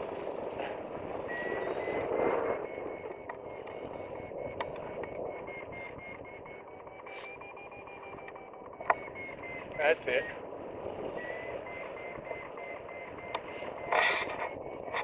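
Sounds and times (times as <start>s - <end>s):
wind noise on microphone: 0.0s - 7.2s, 8.8s - 15.0s
variometer beeping rapid tones: 0.0s - 15.0s.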